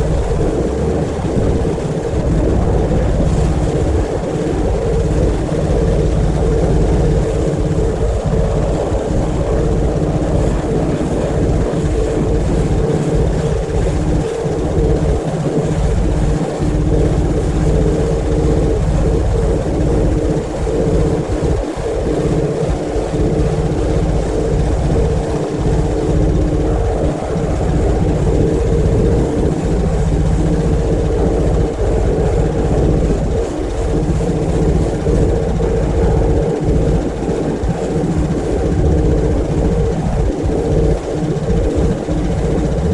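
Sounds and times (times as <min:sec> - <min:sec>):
pressure washer motor humming: 0:00.0 - 0:42.9.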